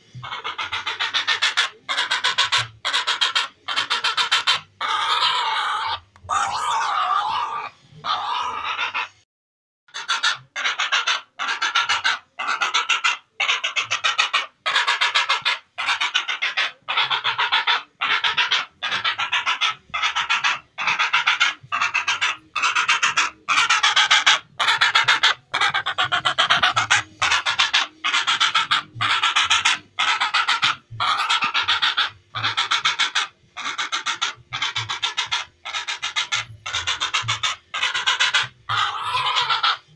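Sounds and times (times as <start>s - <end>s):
heron harsh raspy calls: 0.0s - 9.2s, 9.9s - 39.9s.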